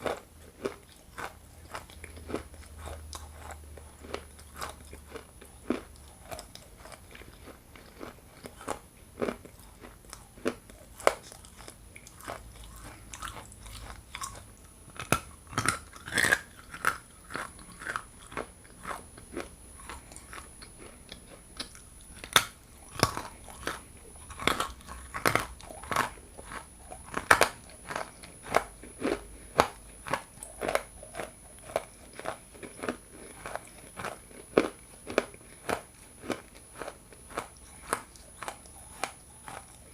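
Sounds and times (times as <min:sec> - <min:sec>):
biting and crunching clay: 0:00.0 - 0:39.9.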